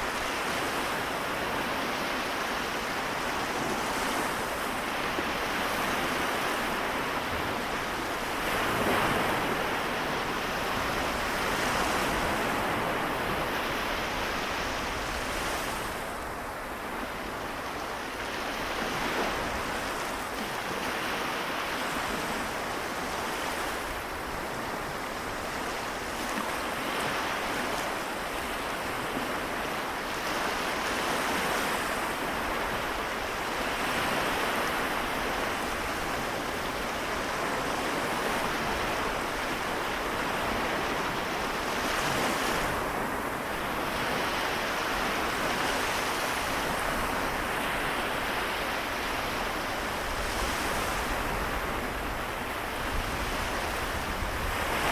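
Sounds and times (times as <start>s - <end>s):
small waves washing ashore: 0.0s - 54.9s.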